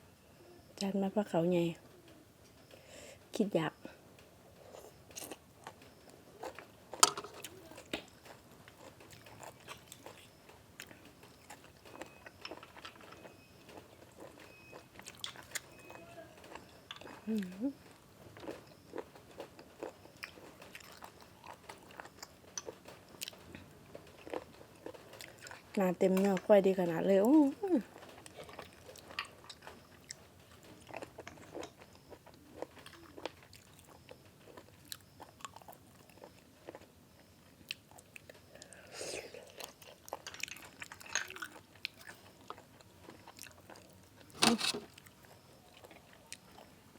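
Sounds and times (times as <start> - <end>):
person chewing food: 4.6 - 23.4, 24.0 - 25.7, 28.2 - 46.7.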